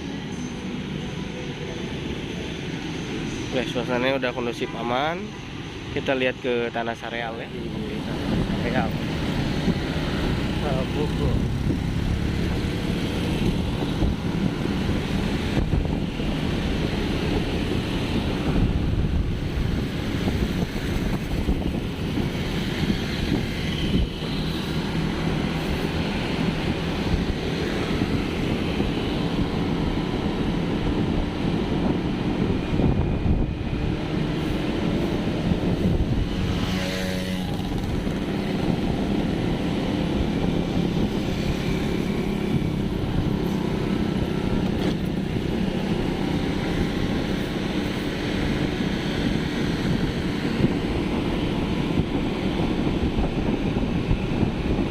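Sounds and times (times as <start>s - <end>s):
vehicle engine and road noise: 0.0s - 54.9s
wind rumble on microphone: 7.1s - 54.9s.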